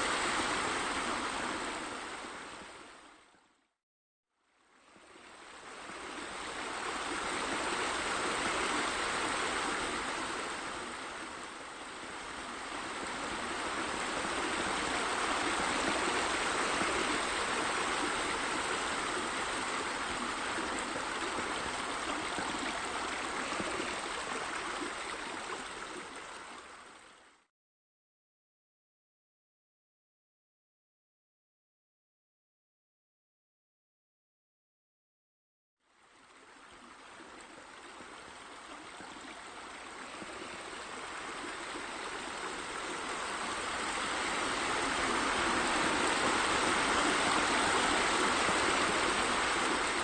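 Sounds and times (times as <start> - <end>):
stream rushing water: 0.0 - 3.3, 4.7 - 27.4, 35.9 - 50.0.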